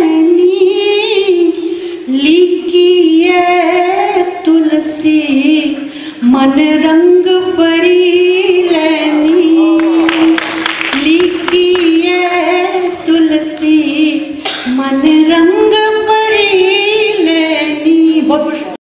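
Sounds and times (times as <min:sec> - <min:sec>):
woman singing into a microphone: 0:00.0 - 0:18.8.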